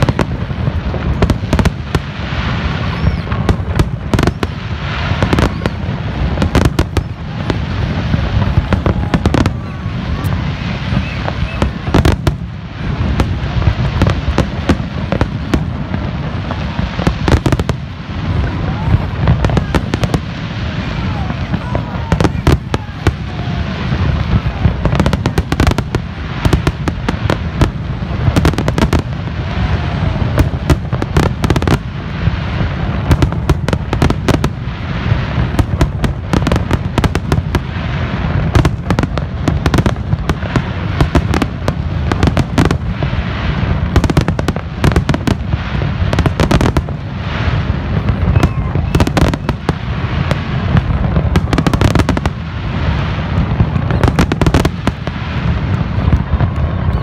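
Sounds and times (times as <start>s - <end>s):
deep rumble: 0.0s - 57.0s
fireworks bursting: 0.0s - 57.0s.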